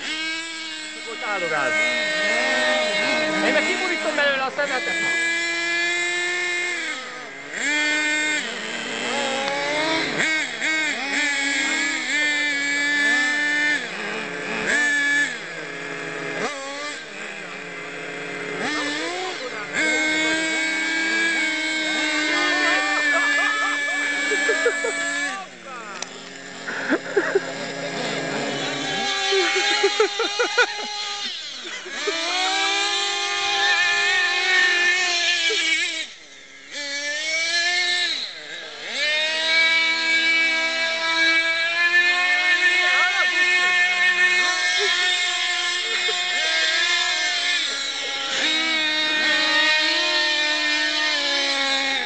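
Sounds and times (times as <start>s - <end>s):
rc car motors whining: 0.0s - 52.0s.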